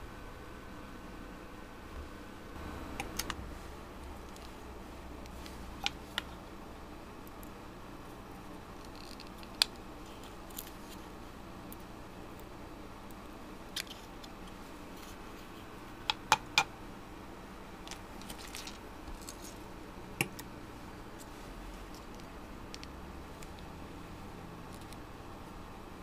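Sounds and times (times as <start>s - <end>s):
faint room hum: 0.0s - 26.0s.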